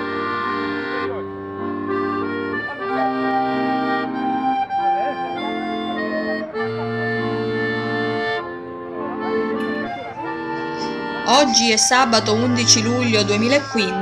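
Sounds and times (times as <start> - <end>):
accordions playing chords: 0.0 - 14.0.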